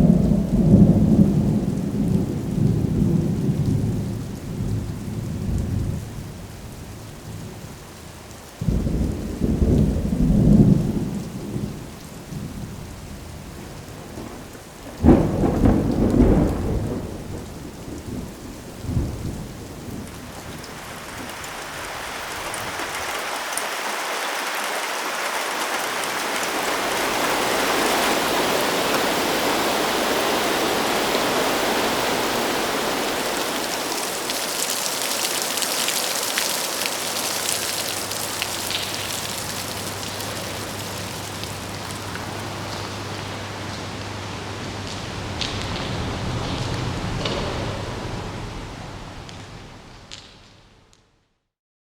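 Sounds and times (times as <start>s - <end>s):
thunder rumbling: 0.0s - 8.0s, 8.6s - 23.5s, 26.0s - 50.9s
heavy rain downpour: 0.0s - 51.2s.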